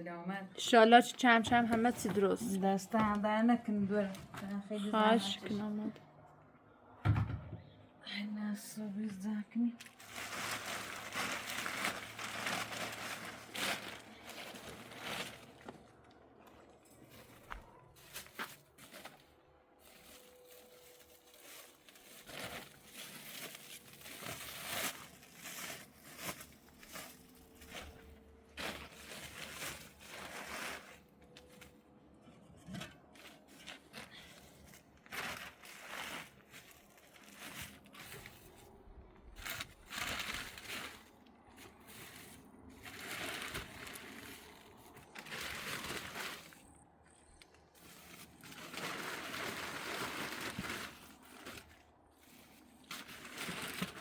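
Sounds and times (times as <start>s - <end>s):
rustling and crinkling: 9.8s - 54.0s.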